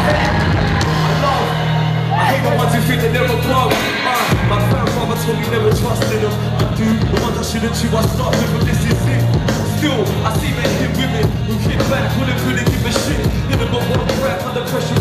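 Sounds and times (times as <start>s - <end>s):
drum beat: 0.0s - 1.5s, 2.2s - 15.0s
deep bass line: 0.0s - 15.0s
live hip hop band playing: 0.0s - 15.0s
person rapping through pa: 0.0s - 15.0s.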